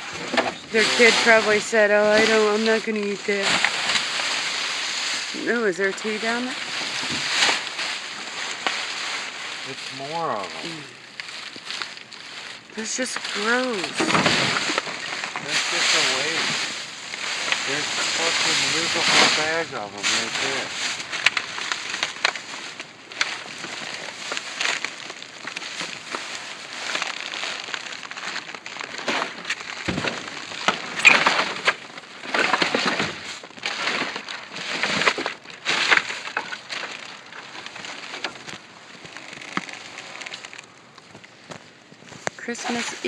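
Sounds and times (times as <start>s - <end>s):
plastic bags rustling and crinkling: 0.0s - 43.0s.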